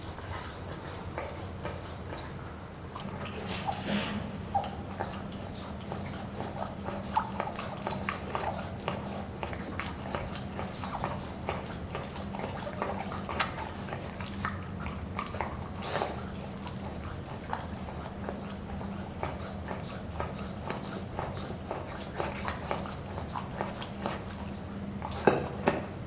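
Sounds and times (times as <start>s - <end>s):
puppy licking and chewing: 0.0s - 3.8s, 4.4s - 26.0s
steady low hum: 0.0s - 26.0s.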